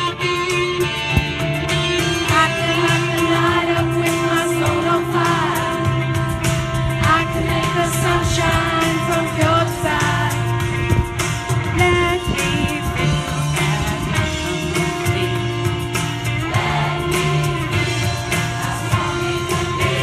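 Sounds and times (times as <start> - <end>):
amplified backing track with beat: 0.0 - 20.0
choir singing pop-rock song: 1.2 - 20.0.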